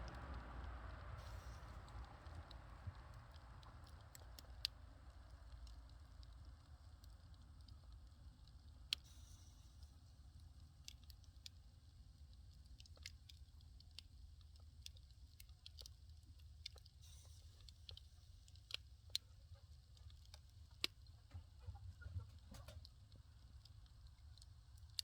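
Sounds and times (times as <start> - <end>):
fire crackling and popping: 0.0 - 25.0
low steady rumble: 0.0 - 25.0.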